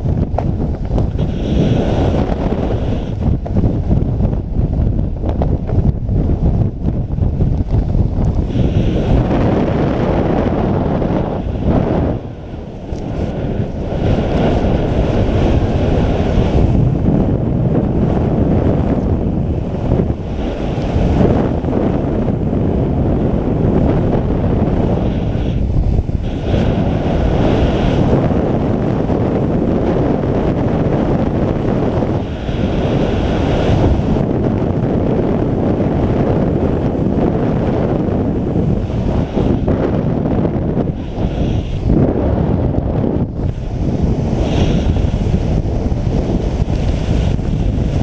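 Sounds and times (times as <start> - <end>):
wind roaring over microphone: 0.0 - 48.0.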